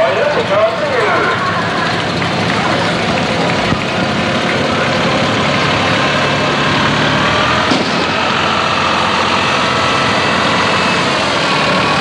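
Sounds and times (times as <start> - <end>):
tractor engine passing: 0.0 - 12.0.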